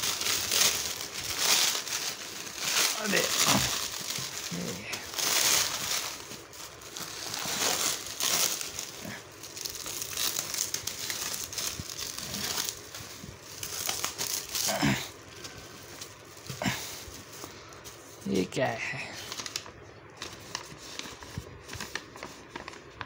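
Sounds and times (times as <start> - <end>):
plastic film crinkling: 0.0 - 23.0.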